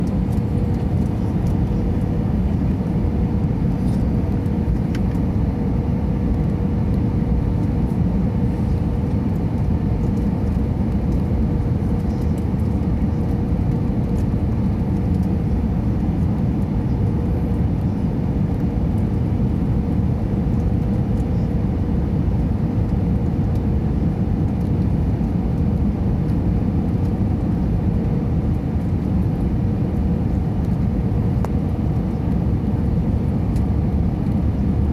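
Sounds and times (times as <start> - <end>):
engines and airflow rushing: 0.0 - 34.9
faint steady hum: 0.0 - 34.9.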